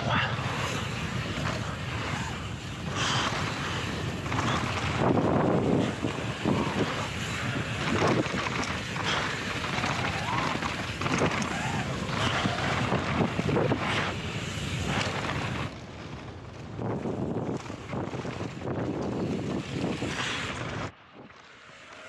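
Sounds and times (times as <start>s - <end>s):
wind rushing over microphone: 0.0s - 21.4s
bike tyres rolling over gravel: 0.0s - 22.0s.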